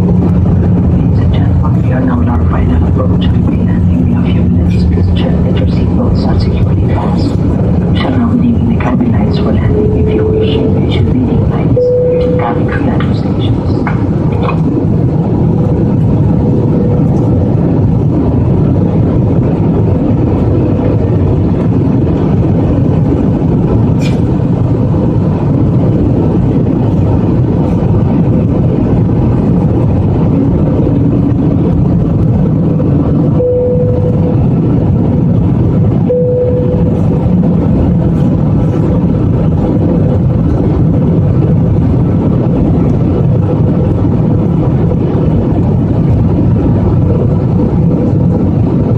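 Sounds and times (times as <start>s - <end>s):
airliner cabin engine noise: 0.0s - 48.9s.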